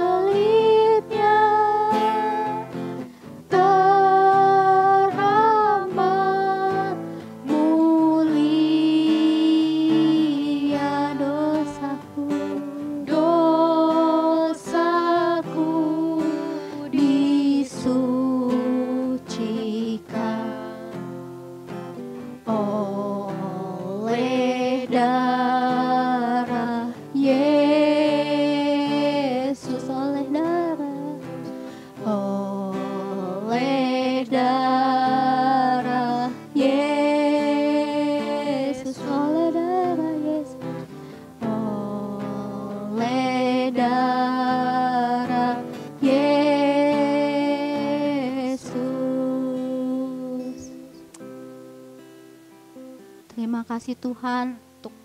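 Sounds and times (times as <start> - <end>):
person singing: 0.0 - 52.2
strummed acoustic guitar: 0.0 - 55.0.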